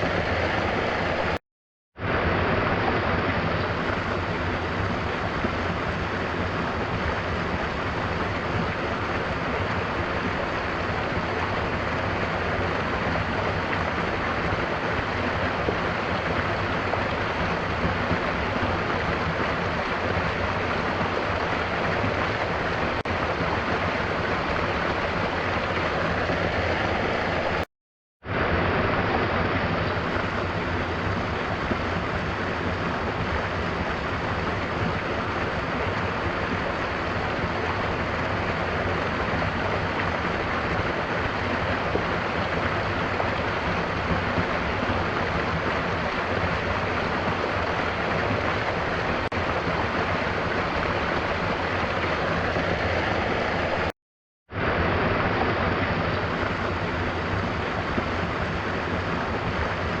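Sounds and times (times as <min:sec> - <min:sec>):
rain: 0:00.0 - 0:01.4, 0:02.0 - 0:53.9, 0:54.5 - 1:00.0
waterfall rushing: 0:00.0 - 0:01.4, 0:02.0 - 0:27.7, 0:28.3 - 0:53.9, 0:54.6 - 1:00.0.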